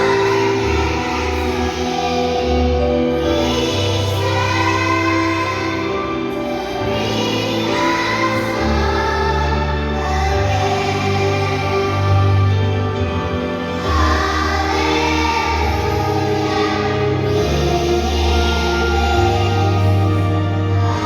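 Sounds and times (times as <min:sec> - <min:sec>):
choir singing in parts: 0:00.0 - 0:21.0.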